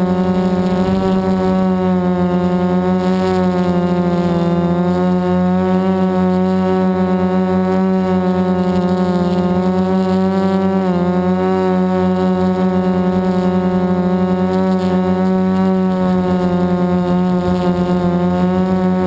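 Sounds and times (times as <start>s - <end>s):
drone motors buzzing: 0.0s - 19.0s.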